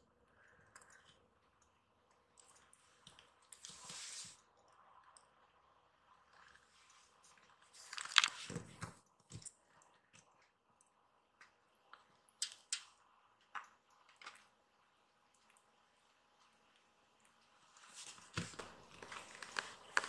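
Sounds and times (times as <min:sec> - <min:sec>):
small clicks and smacks: 0:00.3 - 0:05.4, 0:06.9 - 0:20.0.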